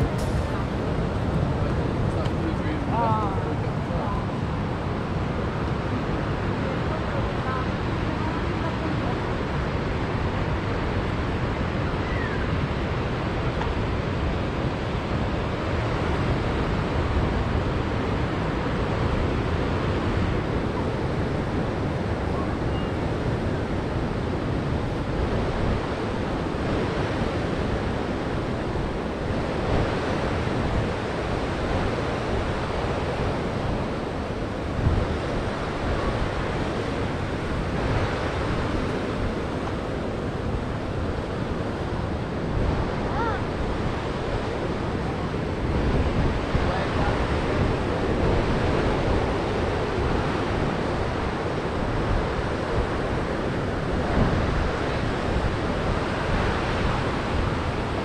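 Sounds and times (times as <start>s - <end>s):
surf washing over rocks: 0.0s - 58.0s
wind on microphone: 0.0s - 58.0s.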